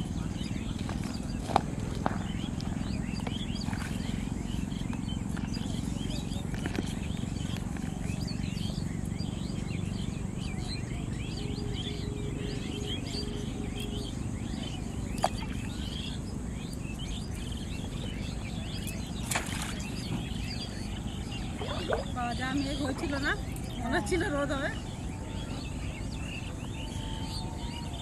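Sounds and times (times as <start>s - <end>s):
low background rumble: 0.0s - 28.0s
small birds chirping: 0.0s - 28.0s.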